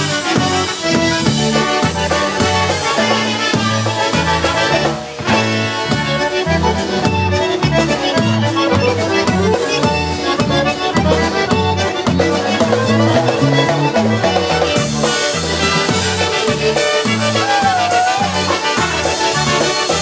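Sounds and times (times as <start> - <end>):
accordion and concertina: 0.0 - 20.0
electric bass: 0.0 - 20.0
steady drum beat: 0.0 - 20.0.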